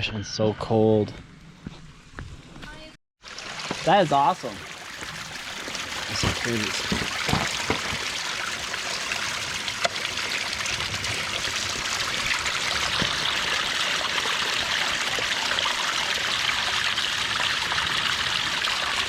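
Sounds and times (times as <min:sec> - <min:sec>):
stream running: 0:03.2 - 0:19.0.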